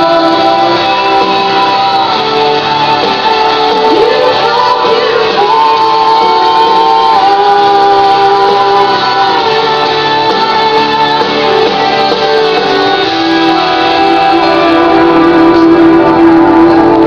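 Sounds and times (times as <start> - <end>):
instrumental backing music: 0.0 - 17.0
woman singing: 0.0 - 17.0.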